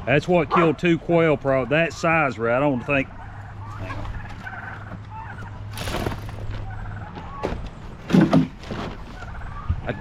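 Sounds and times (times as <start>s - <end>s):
quail chirping and chattering: 0.4s - 10.0s.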